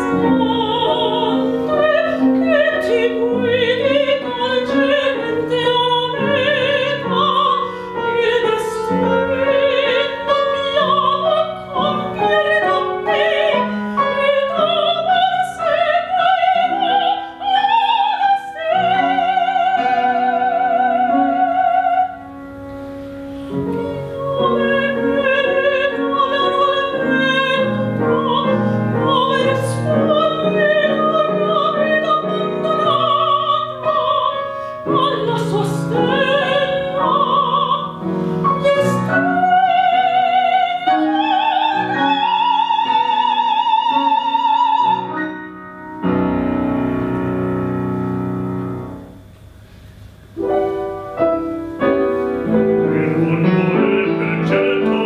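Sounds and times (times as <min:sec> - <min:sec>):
woman singing opera: 0:00.0 - 0:22.3, 0:23.5 - 0:45.4, 0:52.4 - 0:55.0
grand piano: 0:00.0 - 0:55.0.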